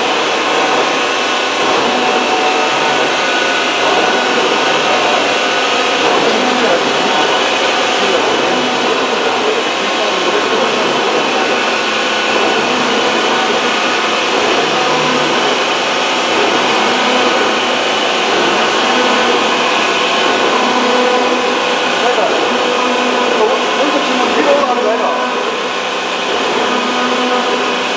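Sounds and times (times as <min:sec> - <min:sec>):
drilling machine running: 0:00.0 - 0:27.9.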